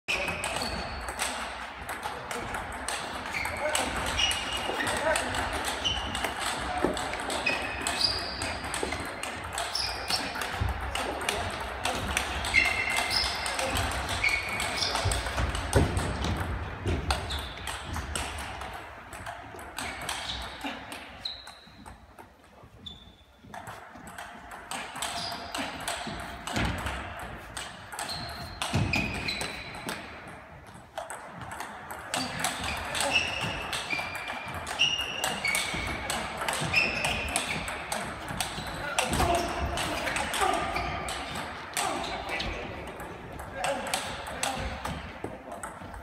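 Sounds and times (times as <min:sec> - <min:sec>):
table tennis balls clicking: 0:00.1 - 0:46.0.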